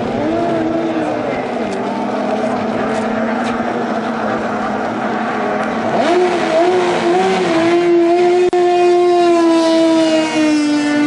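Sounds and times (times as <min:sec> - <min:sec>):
engine revving high: 0:00.0 - 0:11.0
racing boat engines: 0:00.0 - 0:11.0.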